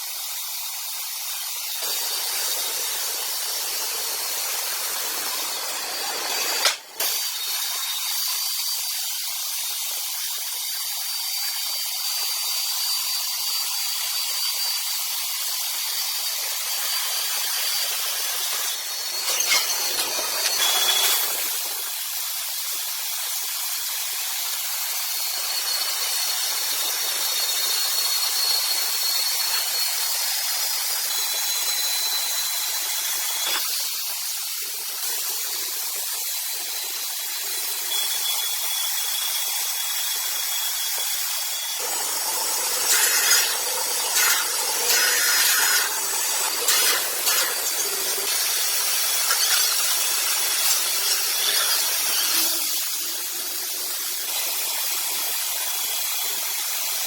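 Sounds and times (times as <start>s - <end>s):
saw cutting through log: 0.0s - 38.0s, 38.8s - 56.6s.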